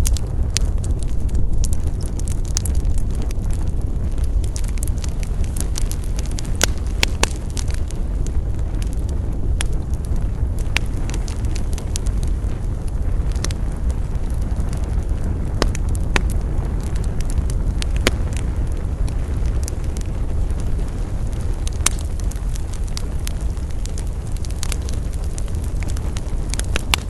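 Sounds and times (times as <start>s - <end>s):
campfire burning: 0.0s - 27.0s
fire crackles and pops: 0.0s - 27.0s.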